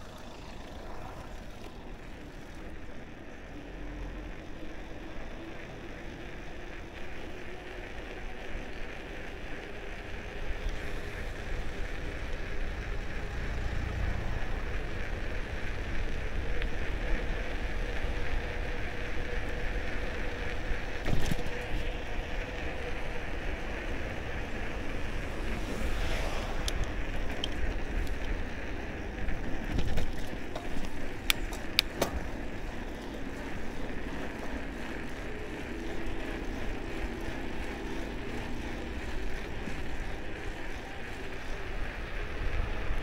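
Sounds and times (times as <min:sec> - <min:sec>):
wind and bicycle tyre rumble: 0:00.0 - 0:43.0.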